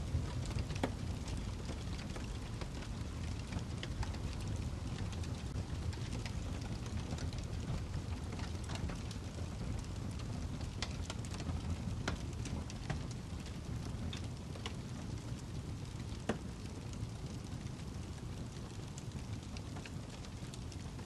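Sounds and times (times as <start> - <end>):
fire crackling and popping: 0.0 - 21.0
fire rumble: 0.0 - 21.0.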